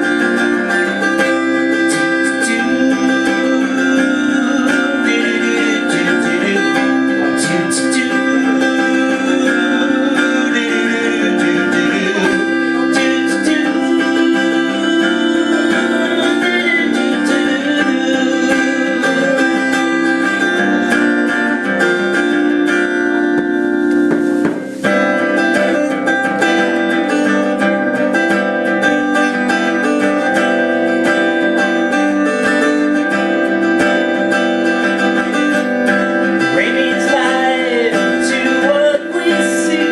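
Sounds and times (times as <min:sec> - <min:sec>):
acoustic guitar playing chords: 0:00.0 - 0:39.9.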